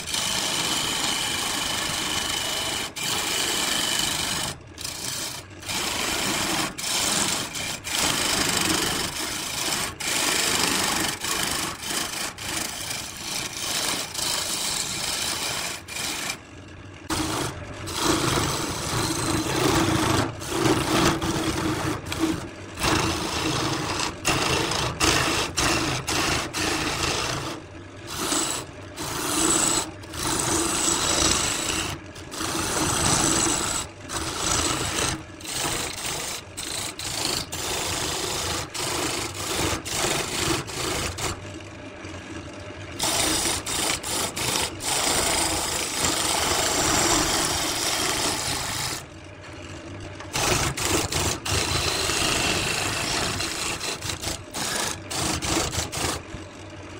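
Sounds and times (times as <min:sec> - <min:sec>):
turning tool scraping wood: 0:00.0 - 0:41.4, 0:43.0 - 0:49.1, 0:50.2 - 0:56.3
lathe humming: 0:00.0 - 0:41.7, 0:42.9 - 0:49.1, 0:50.1 - 0:56.6.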